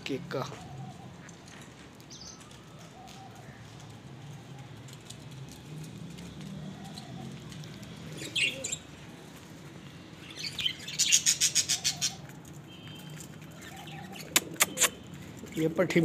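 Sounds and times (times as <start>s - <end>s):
birds chirping: 0.0s - 4.8s, 6.4s - 9.4s, 10.0s - 16.0s.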